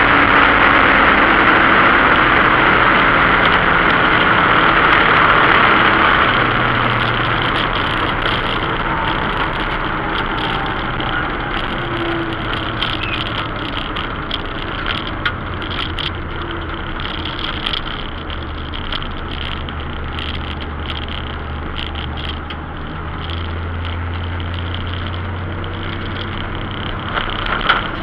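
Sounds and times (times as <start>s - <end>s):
car engine drone from cabin: 0.0s - 28.0s.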